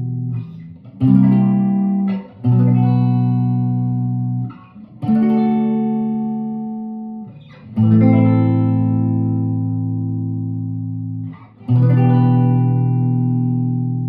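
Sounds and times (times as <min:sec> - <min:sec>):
guitar chords ringing: 0:00.0 - 0:14.0.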